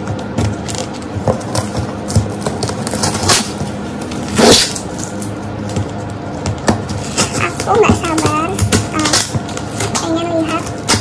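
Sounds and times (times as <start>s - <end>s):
scissors cutting packing tape: 0.6s - 5.4s, 6.9s - 11.0s.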